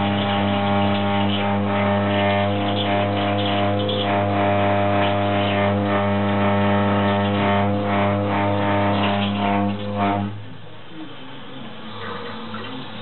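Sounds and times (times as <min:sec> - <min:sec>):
pipes droning: 0:00.0 - 0:13.0.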